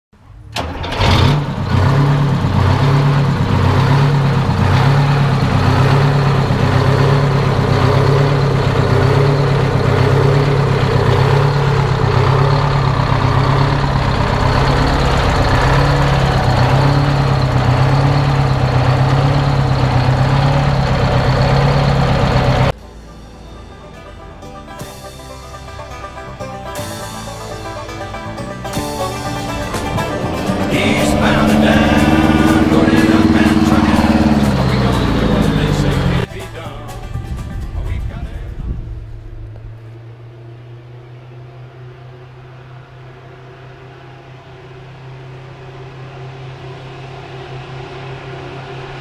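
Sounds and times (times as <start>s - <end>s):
diesel bus engine idling: 0.2s - 49.0s.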